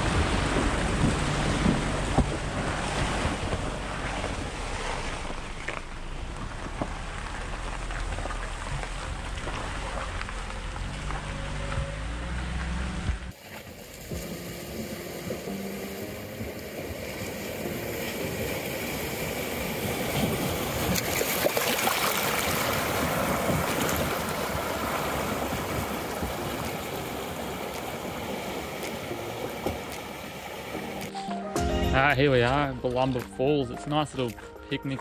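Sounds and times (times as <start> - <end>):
water rushing and splashing: 0.0 - 31.2.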